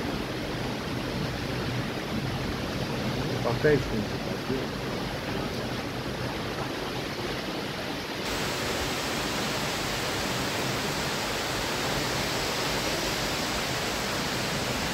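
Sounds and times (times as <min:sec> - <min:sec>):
torrential rain pouring: 0:00.0 - 0:14.9.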